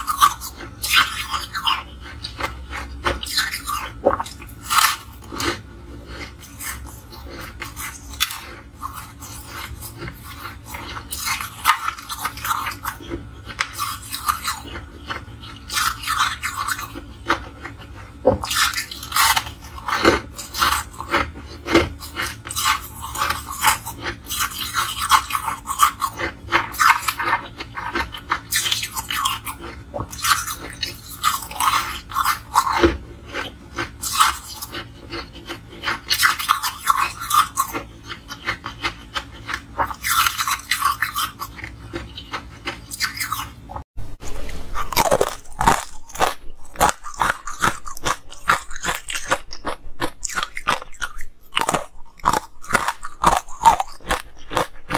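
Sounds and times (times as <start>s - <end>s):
crunching and chewing ice: 0.0s - 54.9s.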